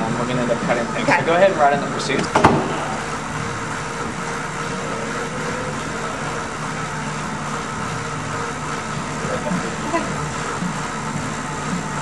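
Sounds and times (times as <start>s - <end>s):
bicycle trainer whirring: 0.0s - 12.0s.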